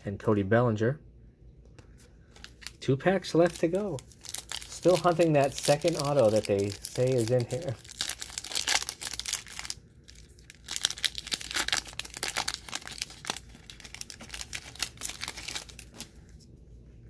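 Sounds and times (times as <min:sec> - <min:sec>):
wrapper crackling: 0:02.3 - 0:16.2.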